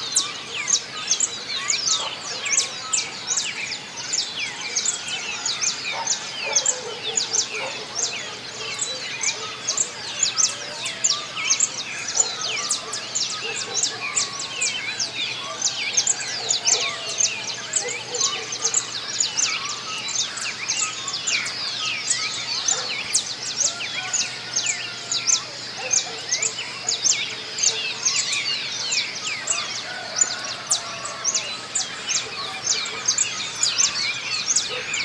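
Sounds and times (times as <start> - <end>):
many birds chirping and trilling: 0.0 - 35.0.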